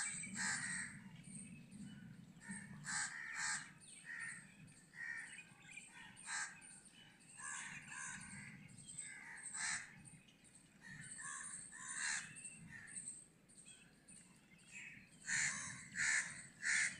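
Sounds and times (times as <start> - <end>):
birds calling: 0.0 - 16.9.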